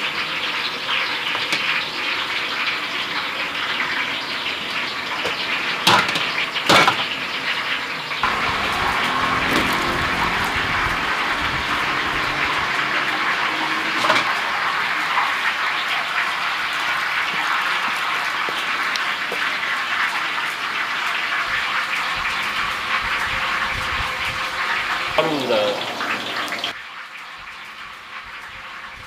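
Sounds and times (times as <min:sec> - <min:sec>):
hot oil sizzling in fryer: 0:00.0 - 0:29.0.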